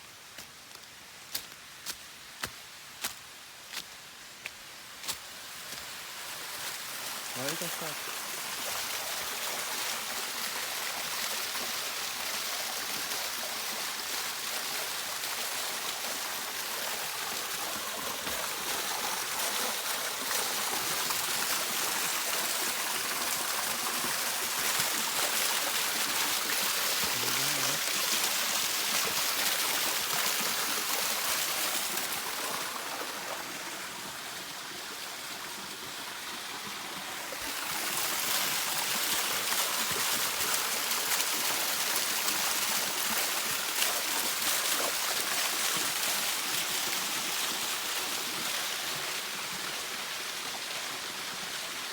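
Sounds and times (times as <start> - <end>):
stream water rushing: 0.1 - 51.9.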